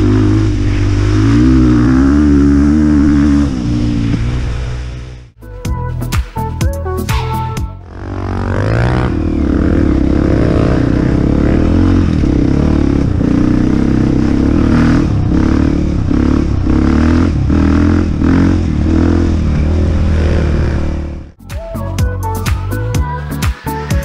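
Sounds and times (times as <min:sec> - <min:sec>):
dirt bike engine revving: 0:00.0 - 0:05.4, 0:07.2 - 0:21.4.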